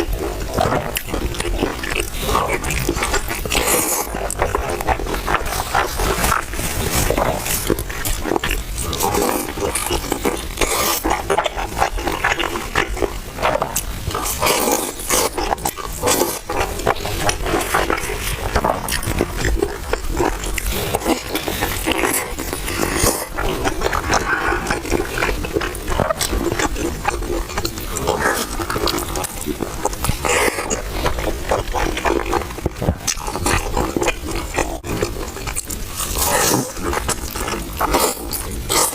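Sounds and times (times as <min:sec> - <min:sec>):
crunchy chewing: 0:00.0 - 0:38.9
wet mouth noises: 0:00.0 - 0:38.9.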